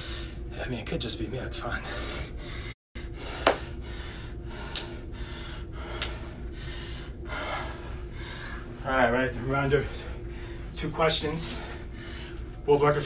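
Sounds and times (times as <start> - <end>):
man breathing heavily: 0.0 - 0.5, 1.7 - 8.8, 9.4 - 12.7.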